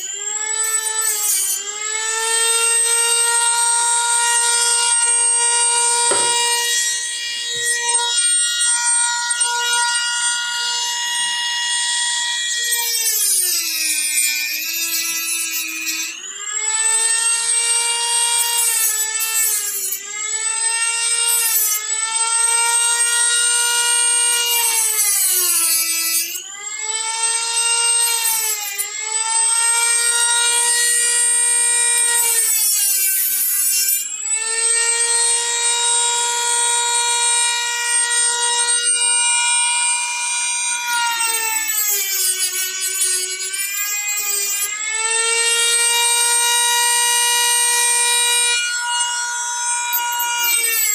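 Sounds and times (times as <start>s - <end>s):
rotary tool grinding whine: 0.0s - 50.9s.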